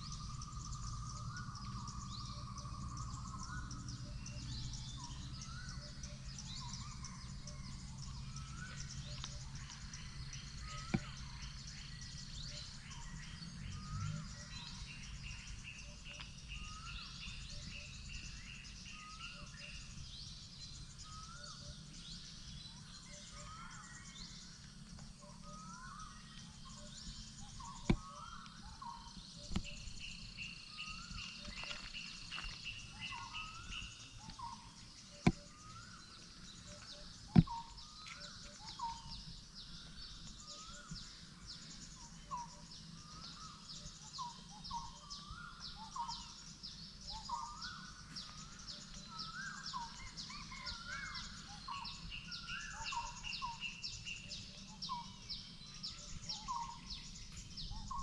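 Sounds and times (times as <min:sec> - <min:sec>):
birds calling in rising notes: 0:00.0 - 0:58.0
high bird chirping: 0:00.0 - 0:58.0.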